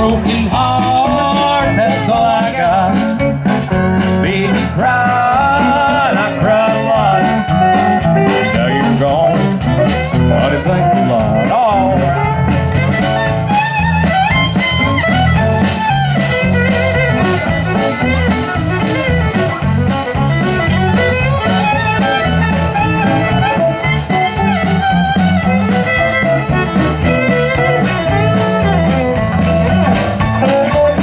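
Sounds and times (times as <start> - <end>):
fiddle: 0.0 - 31.0
steady drum beat: 0.0 - 31.0
strummed acoustic guitars: 0.0 - 31.0.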